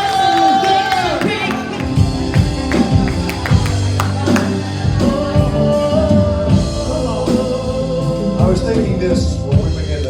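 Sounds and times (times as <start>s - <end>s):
live gospel band playing: 0.0s - 10.0s.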